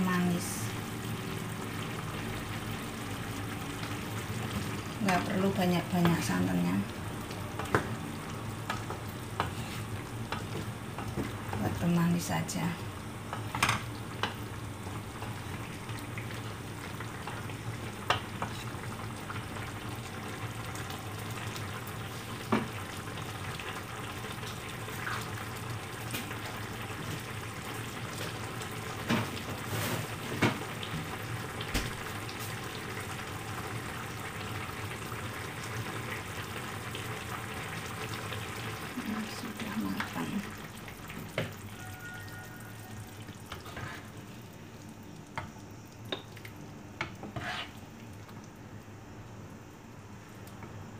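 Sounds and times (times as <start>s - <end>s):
food sizzling in a frying pan: 0.0s - 50.9s.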